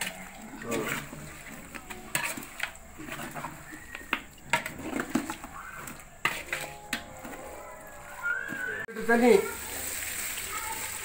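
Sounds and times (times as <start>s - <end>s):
spoon scraping metal pot: 0.0s - 8.9s.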